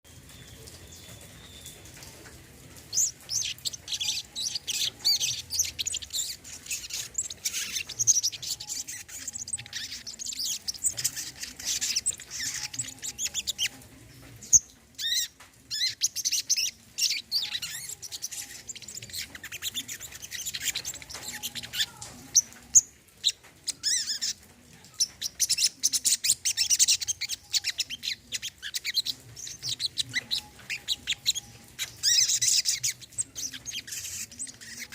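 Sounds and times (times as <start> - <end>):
bird twittering song: 0.1 - 34.9.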